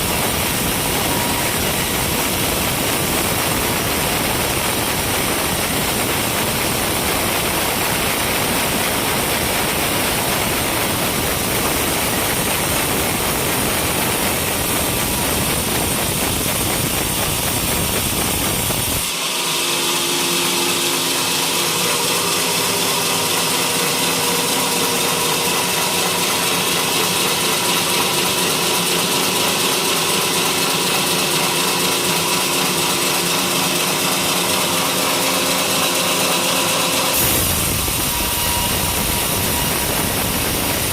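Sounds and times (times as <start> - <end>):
sawmill cutting wood: 0.0 - 40.9.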